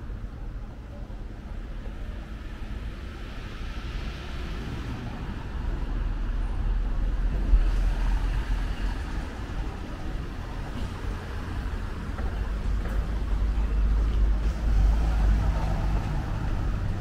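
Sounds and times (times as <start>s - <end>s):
rumble of passing vehicles: 0.0s - 17.0s.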